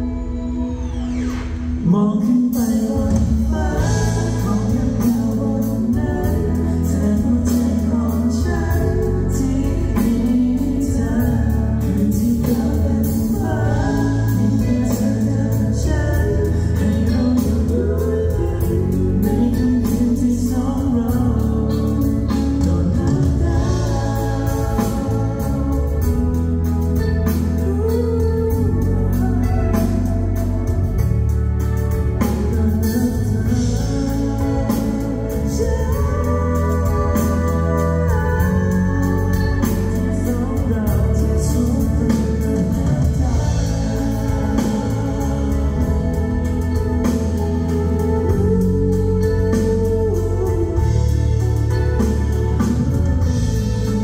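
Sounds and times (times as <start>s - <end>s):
pop backing track with beat: 0.0s - 54.0s
men singing into microphones: 1.8s - 30.4s, 32.2s - 54.0s.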